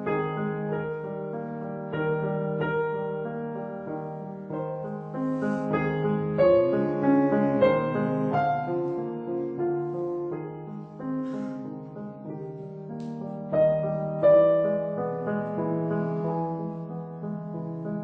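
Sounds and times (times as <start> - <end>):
slow classical piano: 0.0 - 18.0.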